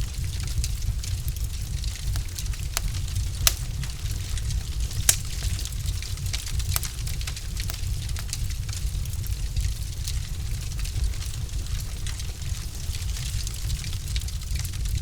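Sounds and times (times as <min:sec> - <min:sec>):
log fire crackling: 0:00.0 - 0:15.0
loud fire pops: 0:00.1 - 0:15.0.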